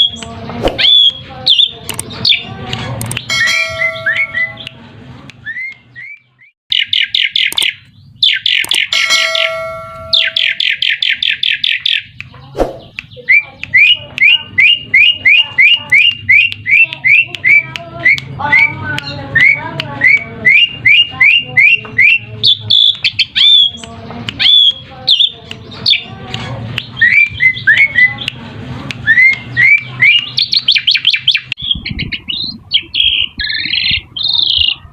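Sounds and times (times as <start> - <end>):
bird chattering: 5.5 - 28.4, 29.1 - 34.9.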